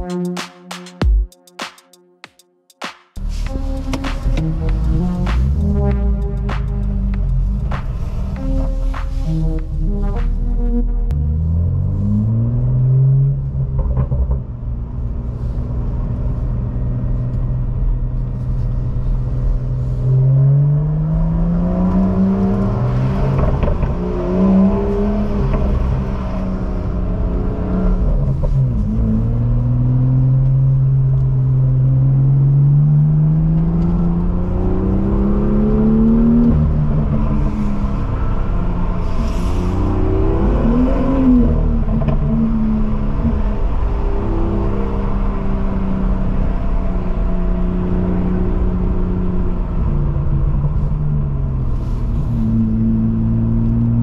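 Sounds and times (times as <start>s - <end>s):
car engine heard from inside cabin: 3.2s - 54.0s.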